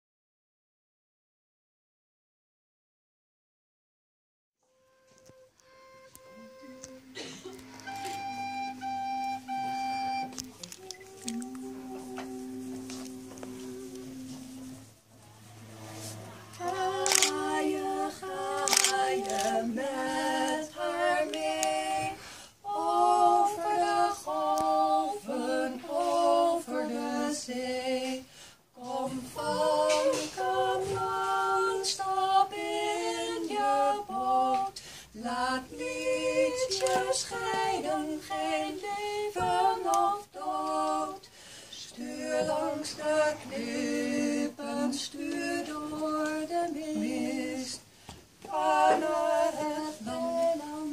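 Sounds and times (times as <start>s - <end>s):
two women singing unaccompanied: 4.9s - 50.9s.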